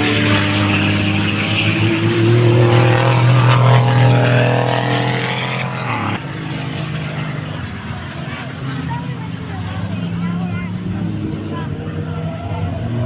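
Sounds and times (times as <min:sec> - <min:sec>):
diesel truck engines revving high: 0:00.0 - 0:13.0.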